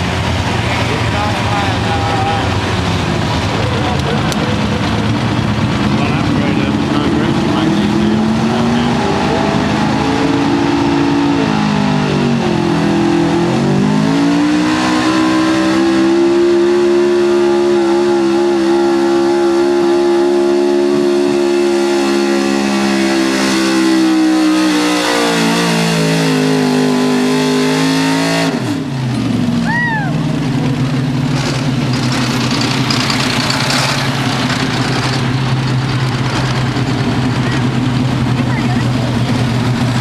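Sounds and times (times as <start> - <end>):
truck engine at high revs: 0.0 - 40.0.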